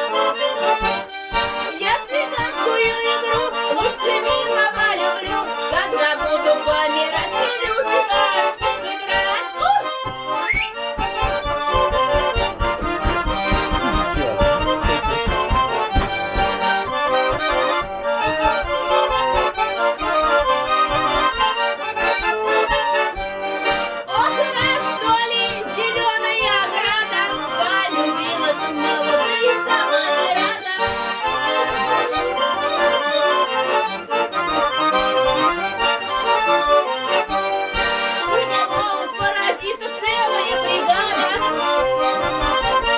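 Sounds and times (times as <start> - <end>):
button accordion playing: 0.0 - 42.9.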